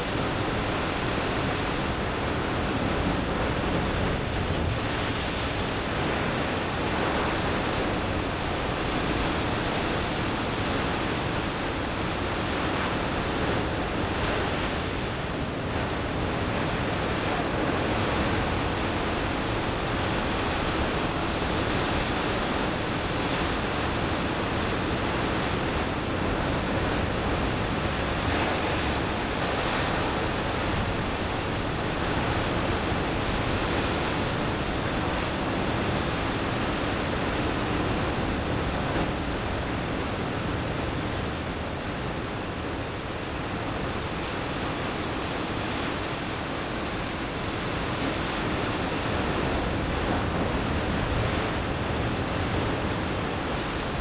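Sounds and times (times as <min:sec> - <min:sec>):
ocean surf rushing: 0:00.0 - 0:54.0.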